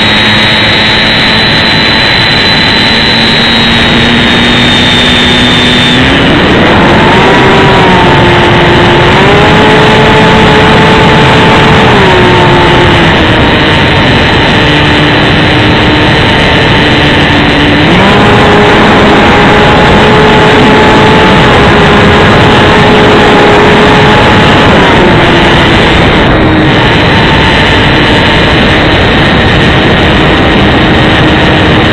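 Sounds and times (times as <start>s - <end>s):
electric motor and propeller whining: 0.0s - 31.9s
wind rush on microphone: 0.0s - 31.9s.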